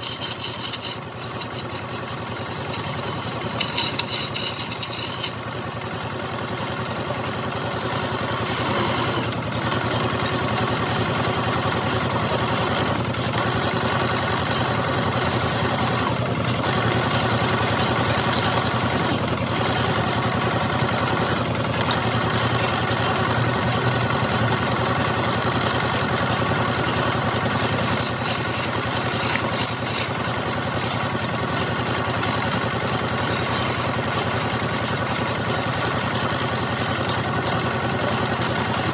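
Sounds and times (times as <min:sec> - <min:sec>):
wood lathe motor hum: 0:00.0 - 0:38.9.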